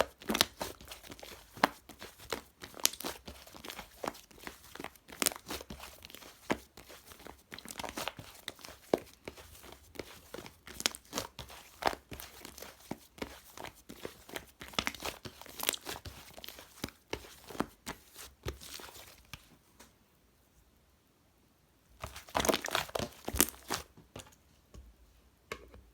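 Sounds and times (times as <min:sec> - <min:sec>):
hands squishing slime: 0:00.0 - 0:19.5, 0:22.0 - 0:24.4.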